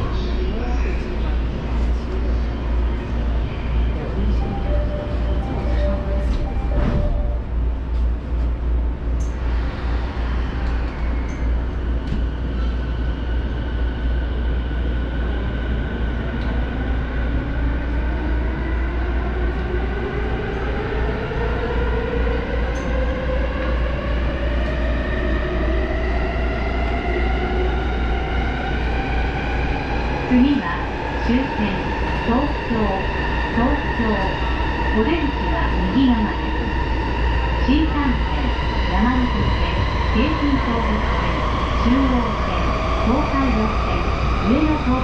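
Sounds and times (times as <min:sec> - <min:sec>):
rumble of train wheels: 0:00.0 - 0:45.0.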